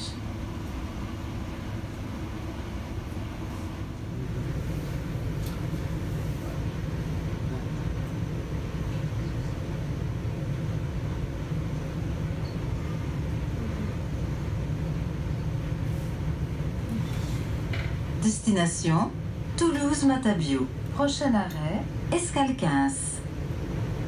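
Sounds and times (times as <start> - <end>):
train interior rumble: 0.0 - 24.0.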